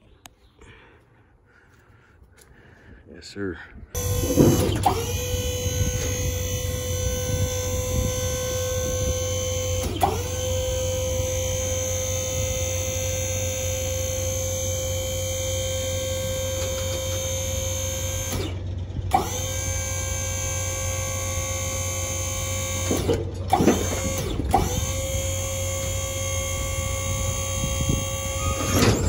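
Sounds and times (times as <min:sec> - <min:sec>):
hydraulic pump whining: 0:04.0 - 0:29.0.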